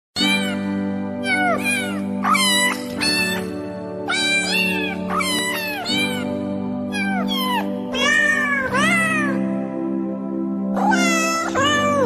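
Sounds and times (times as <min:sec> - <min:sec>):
cat meowing: 0:00.2 - 0:09.4, 0:10.8 - 0:12.0
background music held chord: 0:00.2 - 0:12.0.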